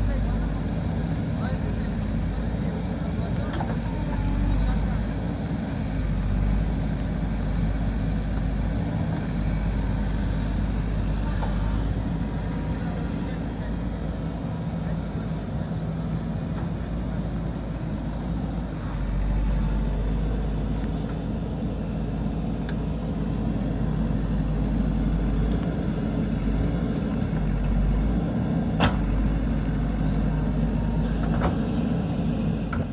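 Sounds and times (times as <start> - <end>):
diesel engine running under load: 0.0 - 32.9.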